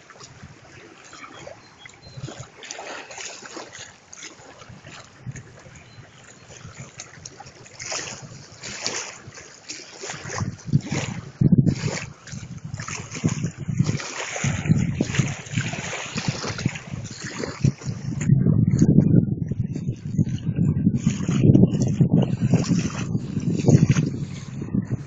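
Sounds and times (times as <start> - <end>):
small waves lapping on a bank: 0.0 - 25.0
wind buffeting the microphone: 0.0 - 25.0.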